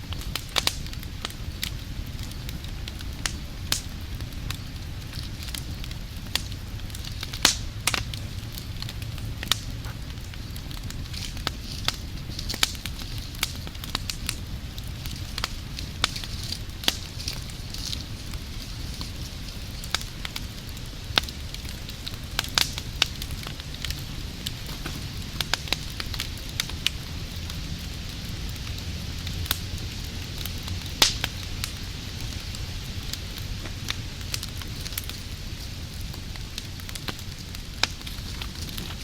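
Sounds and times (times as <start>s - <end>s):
fire crackles and pops: 0.0s - 39.0s
wood fire roaring: 0.0s - 39.0s.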